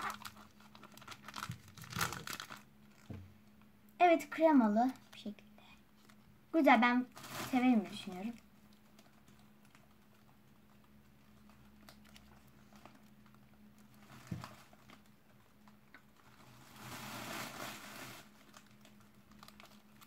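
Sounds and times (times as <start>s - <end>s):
plastic wrapper crinkling: 0.0s - 3.2s, 5.9s - 20.0s
faint steady hum: 0.0s - 20.0s.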